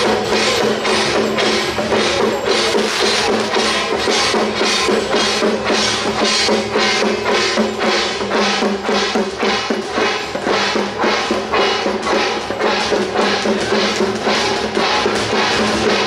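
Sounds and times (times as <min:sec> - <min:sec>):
drums in march beat: 0:00.0 - 0:16.0
hand cymbals clashing: 0:00.0 - 0:16.0.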